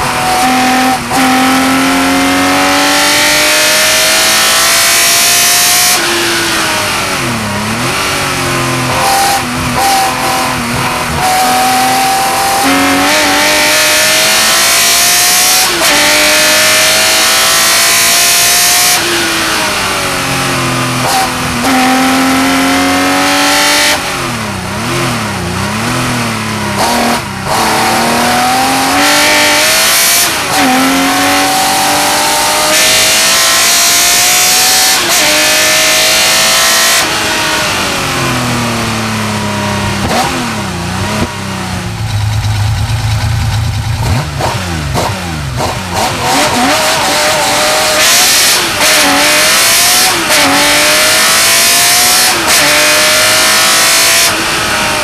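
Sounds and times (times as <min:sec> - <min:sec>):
racing engine revving: 0:00.0 - 0:55.0.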